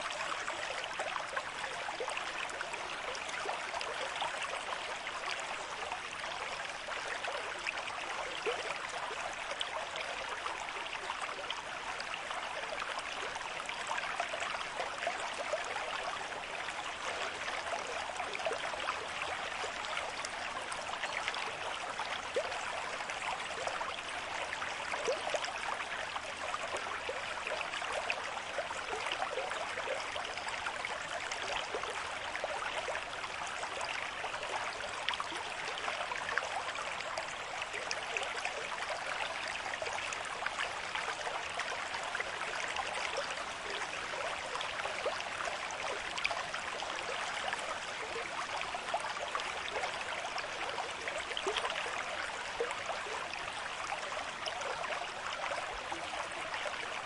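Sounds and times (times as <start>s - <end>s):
stream water burbling over stones: 0.0s - 57.0s.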